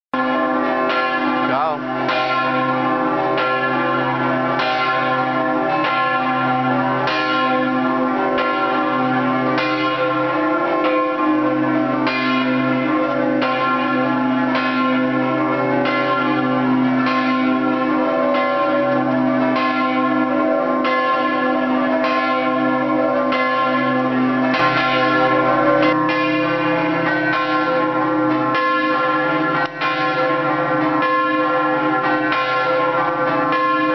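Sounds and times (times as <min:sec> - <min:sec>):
church bells rung by hand: 0:00.2 - 0:33.9.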